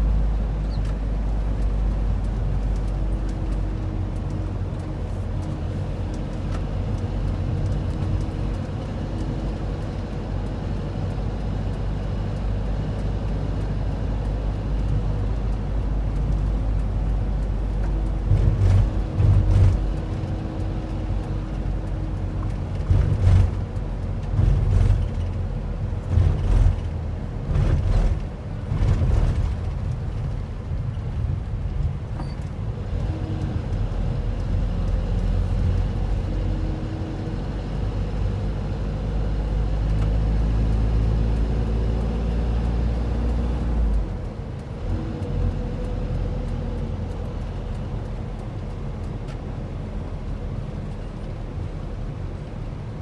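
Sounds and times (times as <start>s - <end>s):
bus engine rumble: 0.0s - 53.0s.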